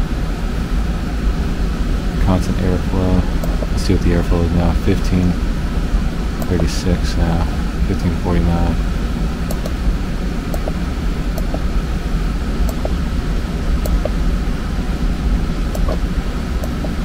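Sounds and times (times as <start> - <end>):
blower rushing air: 0.0 - 17.0.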